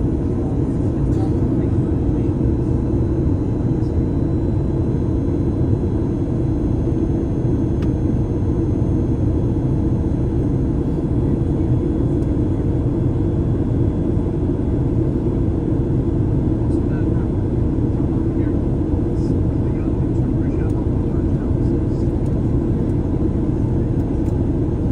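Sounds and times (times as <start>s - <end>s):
airliner cabin engine rumble: 0.0s - 24.9s.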